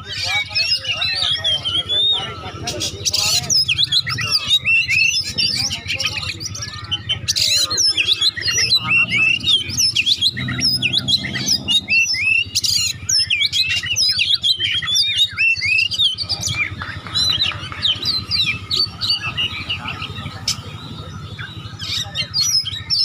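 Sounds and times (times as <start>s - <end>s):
bird singing fast whistles: 0.0s - 23.0s.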